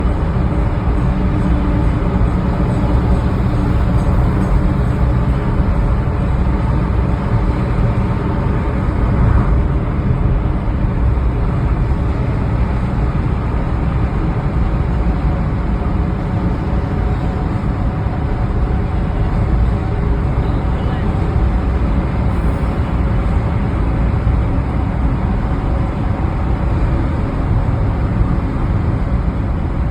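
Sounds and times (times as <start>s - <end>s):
car engine and road noise: 0.0s - 29.9s.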